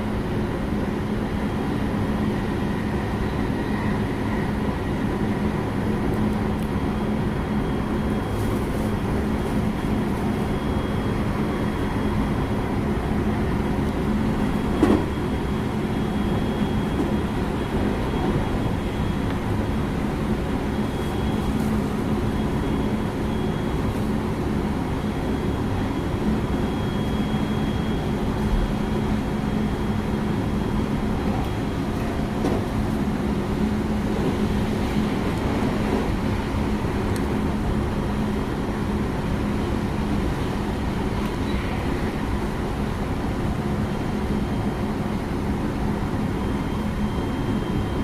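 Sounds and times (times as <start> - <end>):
constant low hum: 0.0 - 48.0
wheels rumbling on rail: 0.0 - 48.0.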